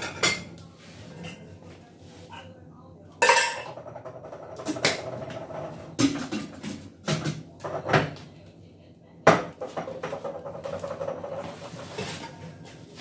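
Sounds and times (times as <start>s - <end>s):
dishes and utensils clattering: 0.0s - 2.6s, 3.2s - 8.2s, 9.3s - 13.0s.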